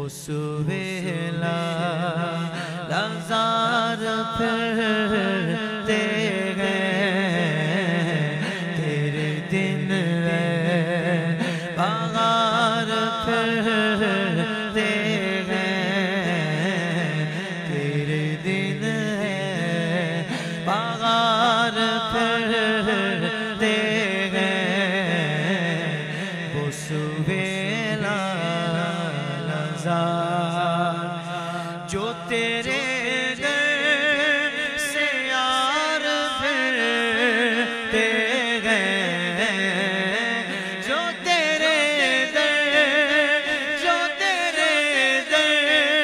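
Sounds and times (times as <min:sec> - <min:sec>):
man singing unaccompanied: 0:00.0 - 0:46.0.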